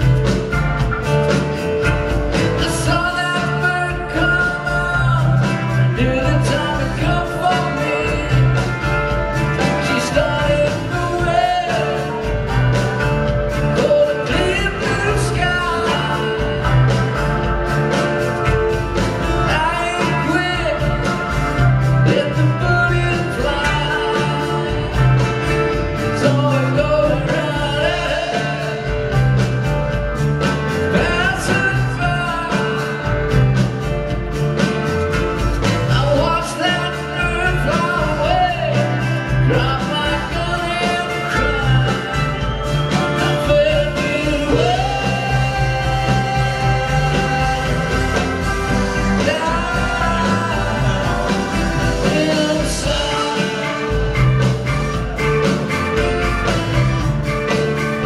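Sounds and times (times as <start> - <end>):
acoustic guitar: 0.0 - 58.0
drums: 0.0 - 58.0
keyboard: 0.0 - 58.0.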